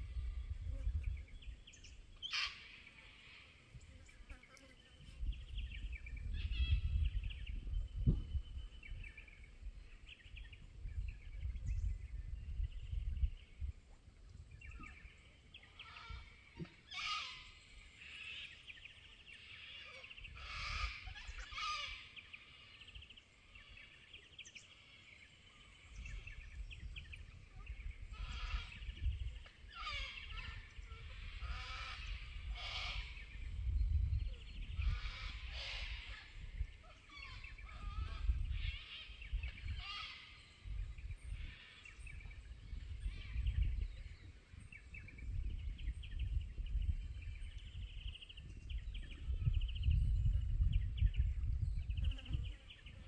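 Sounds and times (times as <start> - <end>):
wind rumble on microphone: 0.0 - 2.8, 3.6 - 24.6, 25.2 - 53.0.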